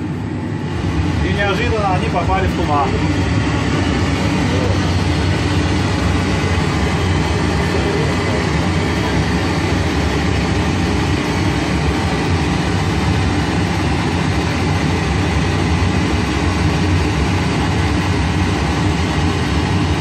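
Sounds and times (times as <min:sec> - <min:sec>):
aircraft cockpit low rumble: 0:00.0 - 0:20.0.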